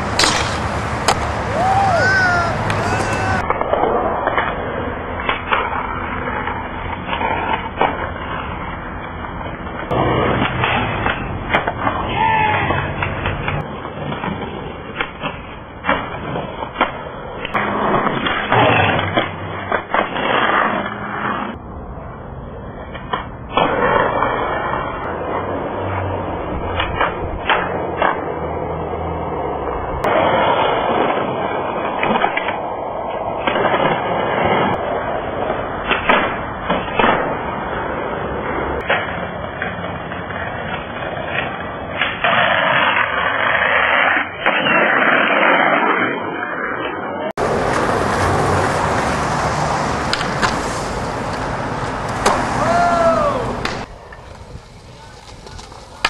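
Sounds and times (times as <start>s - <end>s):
skateboard clacks: 0.0s - 21.6s, 22.8s - 56.0s
skateboards grinding on ledges: 0.0s - 21.6s, 22.5s - 56.0s
skateboards rolling on pavement: 0.0s - 56.0s.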